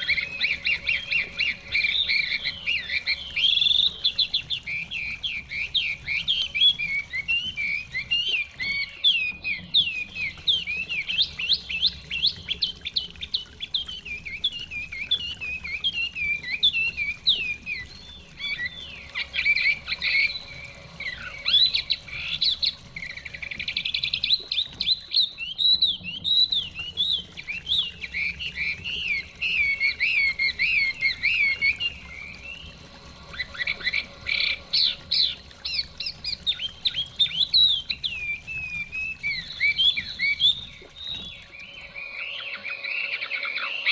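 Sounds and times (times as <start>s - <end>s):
bird singing whistled notes: 0.0s - 43.9s.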